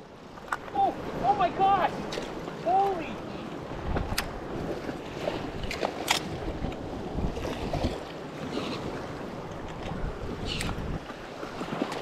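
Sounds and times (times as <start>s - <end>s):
sea washing against rocks: 0.6s - 12.0s
wind buffeting microphone: 0.8s - 12.0s.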